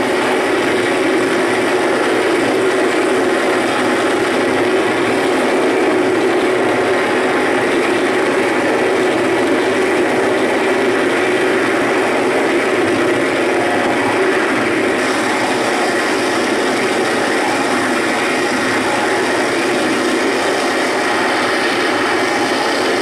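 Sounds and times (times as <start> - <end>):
harsh electronic noise drone: 0.0 - 23.0.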